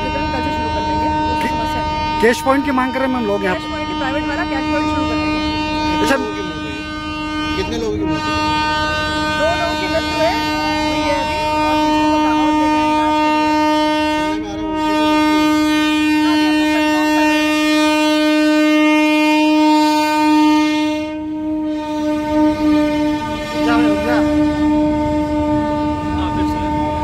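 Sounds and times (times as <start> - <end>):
faint crowd voices: 0.0 - 27.0
locomotive horn blast: 0.0 - 27.0.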